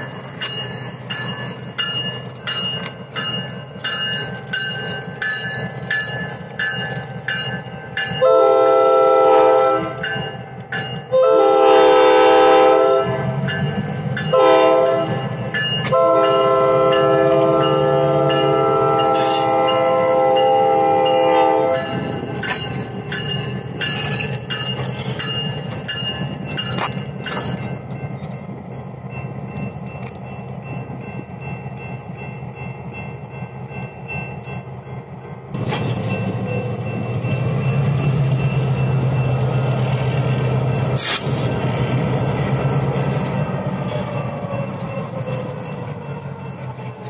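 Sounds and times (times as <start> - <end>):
crossing bell: 0.0 - 41.0, 42.6 - 47.0
diesel locomotive engines running: 0.0 - 47.0.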